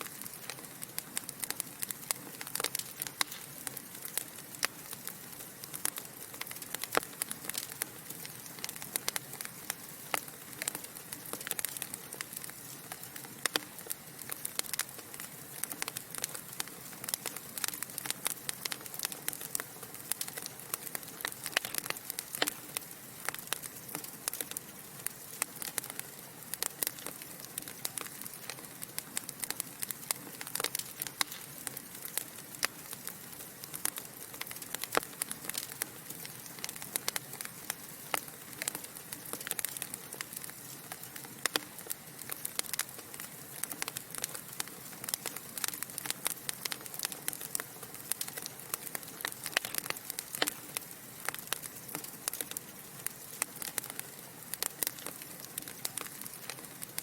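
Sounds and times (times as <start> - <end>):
fire crackling and popping: 0.0 - 57.0
soft steady hiss: 0.0 - 57.0.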